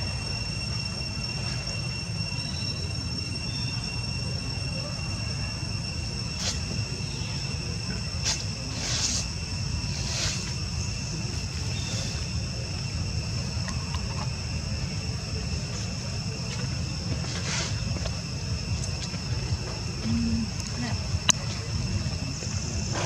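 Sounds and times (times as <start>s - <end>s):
constant low rumble: 0.0s - 23.0s
high-pitched insect drone: 0.0s - 23.0s.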